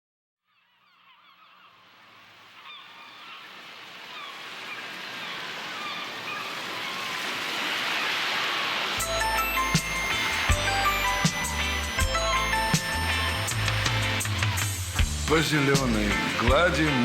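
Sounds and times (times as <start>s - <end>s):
birds calling: 0.4s - 17.0s
waves and surf: 1.9s - 17.0s.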